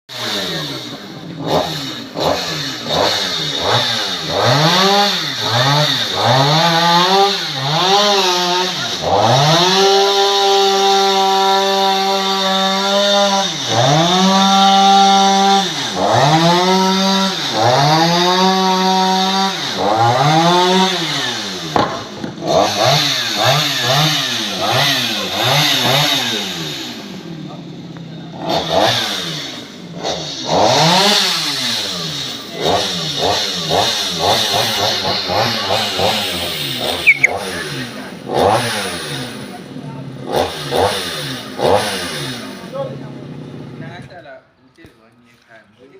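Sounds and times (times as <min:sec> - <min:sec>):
chainsaw engine revving: 0:00.1 - 0:44.2.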